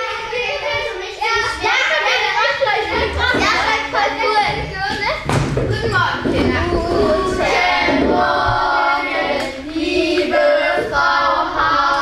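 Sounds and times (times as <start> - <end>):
children singing: 0.0 - 12.0.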